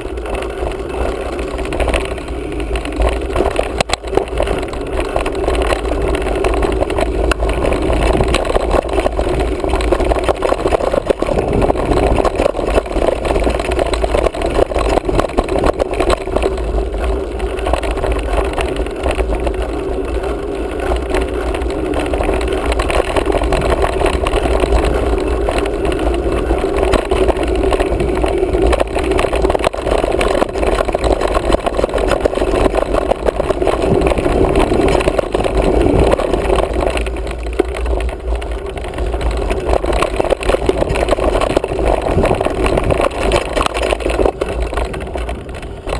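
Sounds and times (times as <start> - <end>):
fine rattle: 0.0 - 45.9
tyres rolling over dirt: 0.0 - 45.9
wind on microphone: 0.0 - 45.9.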